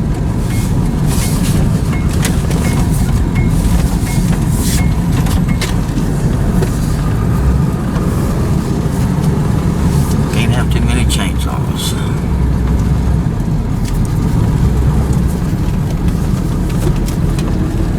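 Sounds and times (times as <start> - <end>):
vehicle road and engine rumble: 0.0 - 17.9.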